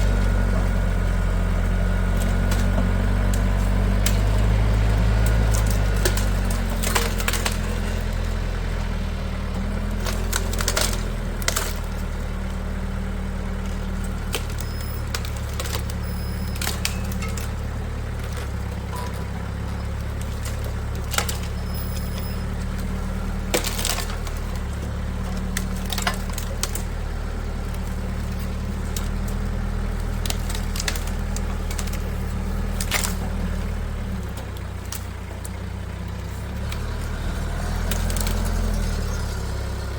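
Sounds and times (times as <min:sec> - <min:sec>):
large engine running: 0:00.0 - 0:39.9
wood cracking and snapping: 0:00.0 - 0:39.9.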